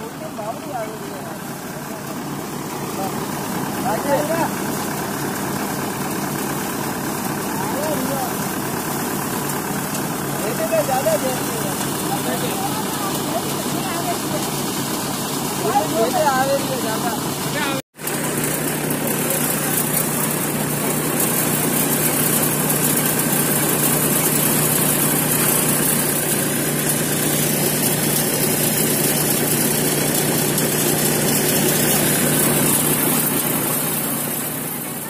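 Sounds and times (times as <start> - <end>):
threshing machine drone: 0.0 - 35.0.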